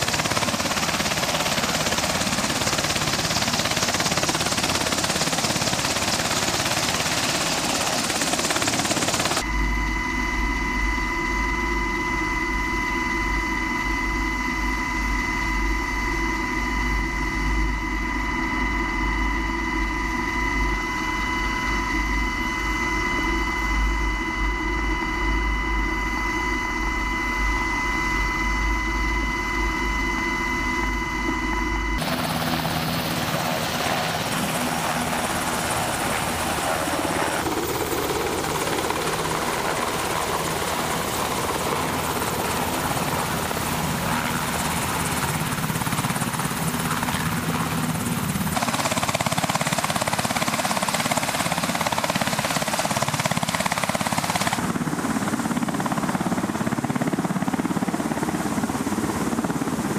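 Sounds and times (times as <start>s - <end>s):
helicopter rotor rushing: 0.0s - 59.9s
helicopter turbine whine: 0.0s - 59.9s.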